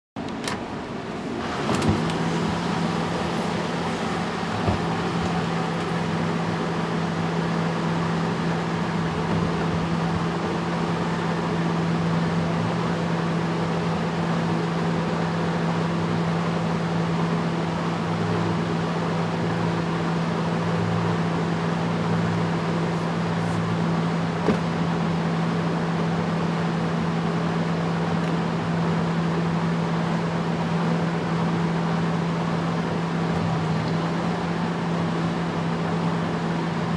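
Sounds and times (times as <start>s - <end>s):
washing machine spinning: 0.2s - 36.9s.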